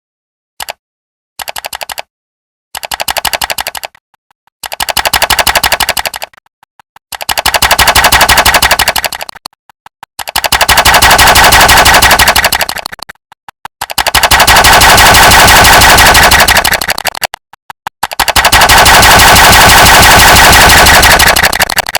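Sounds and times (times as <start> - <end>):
rapid click sound effect: 0.6 - 0.8, 1.4 - 2.1, 2.8 - 21.9.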